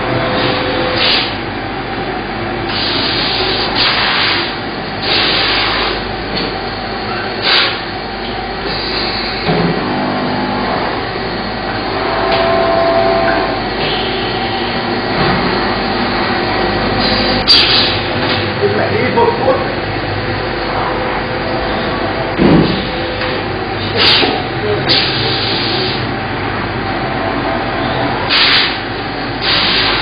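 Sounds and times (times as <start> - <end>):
workshop machinery running: 0.0 - 30.0.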